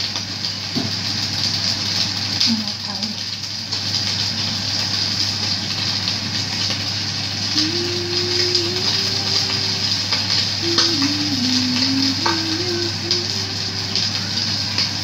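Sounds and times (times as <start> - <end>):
fish sizzling in hot oil: 0.0 - 15.0
low steady hum: 2.4 - 15.0.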